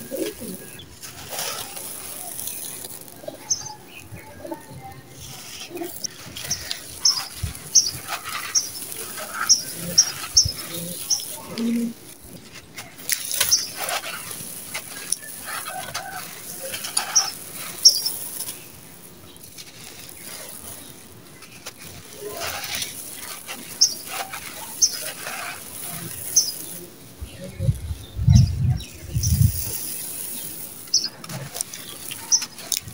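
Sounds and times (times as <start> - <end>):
sand crunching and rustling: 0.0 - 32.9.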